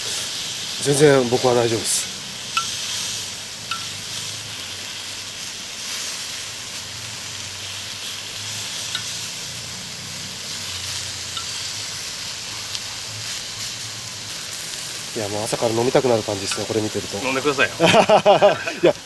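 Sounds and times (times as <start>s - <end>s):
steak sizzling on a griddle: 0.0s - 19.0s.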